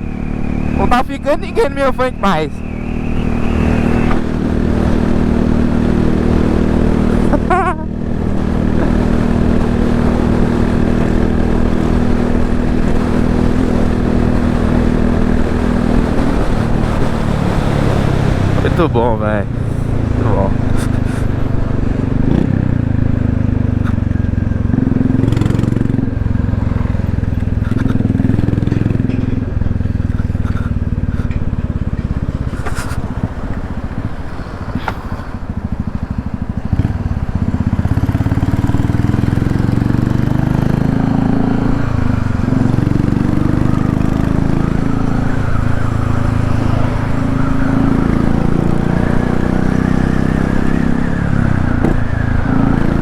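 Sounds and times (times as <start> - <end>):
motorcycle engine revving while riding: 0.0 - 53.0.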